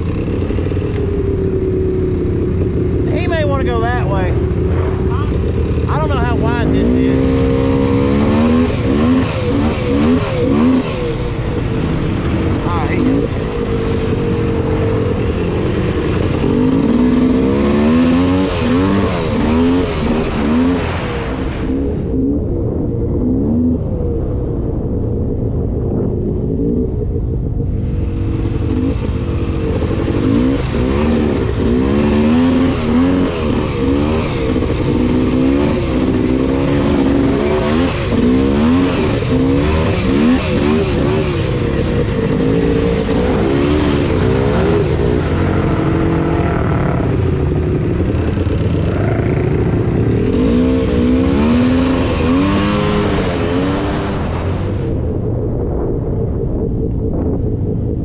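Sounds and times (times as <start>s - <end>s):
atv engine revving: 0.0s - 24.0s, 27.5s - 55.0s.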